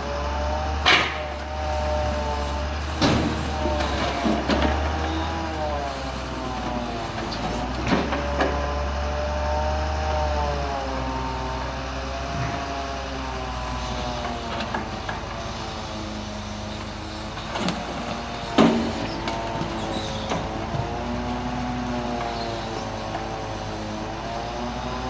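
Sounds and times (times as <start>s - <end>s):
truck engine running crane: 0.0s - 25.0s.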